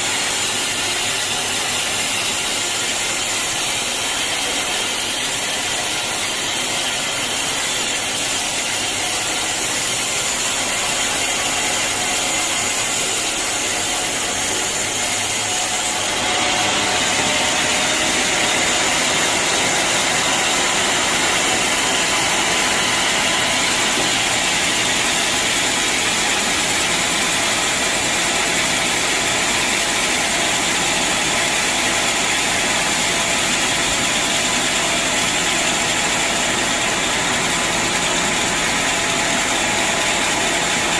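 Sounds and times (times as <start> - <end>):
band sawmill sawing a log: 0.0 - 40.9.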